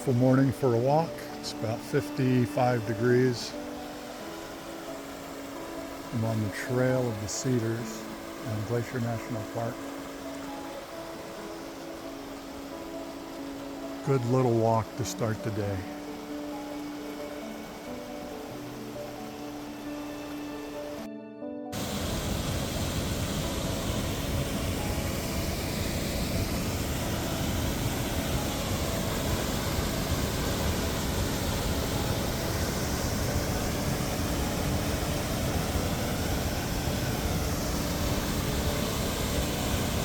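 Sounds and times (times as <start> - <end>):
fast-flowing water rushing: 0.0 - 21.1, 21.8 - 40.0
faint background music: 0.0 - 40.0.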